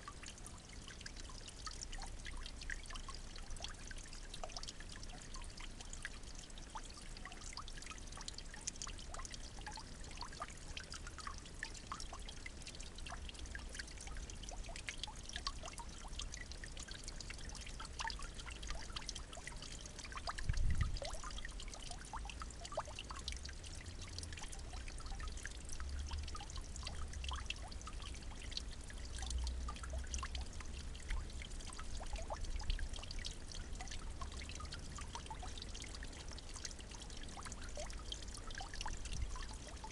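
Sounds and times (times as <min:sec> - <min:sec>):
trickle of running water: 0:00.0 - 0:39.9.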